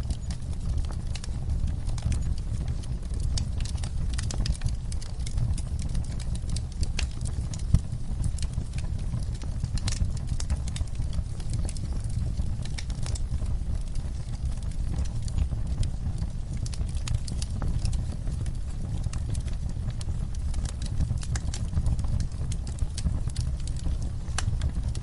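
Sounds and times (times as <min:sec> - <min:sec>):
fire crackling and popping: 0:00.0 - 0:25.0
rumble of flames: 0:00.0 - 0:25.0.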